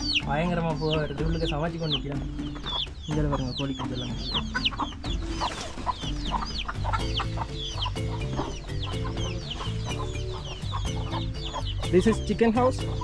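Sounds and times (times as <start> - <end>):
chicks peeping: 0.0 - 13.0
soft background music: 0.0 - 13.0.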